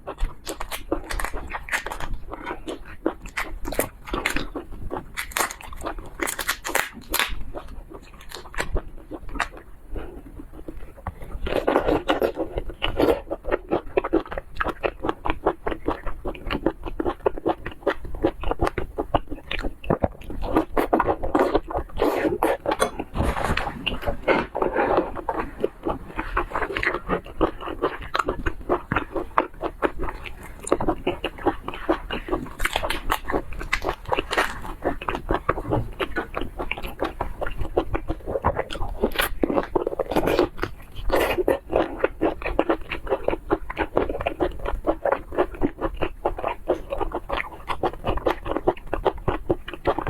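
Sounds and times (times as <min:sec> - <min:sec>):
biting and chewing seafood: 0:00.0 - 0:50.0
crunching: 0:00.1 - 0:50.0.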